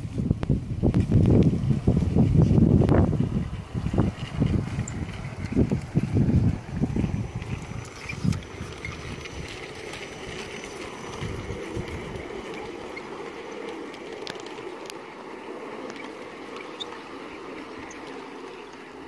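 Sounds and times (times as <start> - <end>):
model train wheels rumbling on rail: 0.0 - 19.0
sharp clicks of wheels: 0.4 - 19.0.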